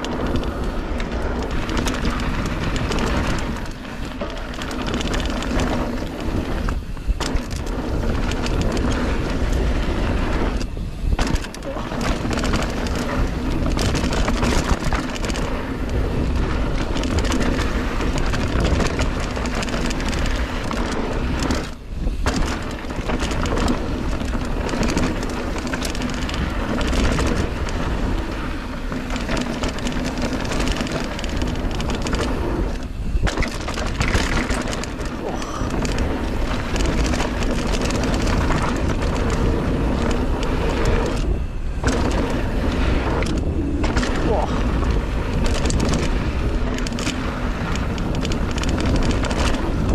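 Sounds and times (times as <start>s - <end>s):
bike tyres and rattle on dirt: 0.0s - 49.9s
wind buffeting microphone: 0.0s - 49.9s.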